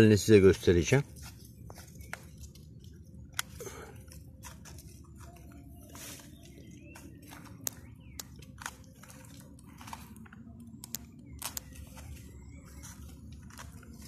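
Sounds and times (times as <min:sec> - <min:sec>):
fingers digging in soil: 0:01.1 - 0:14.0.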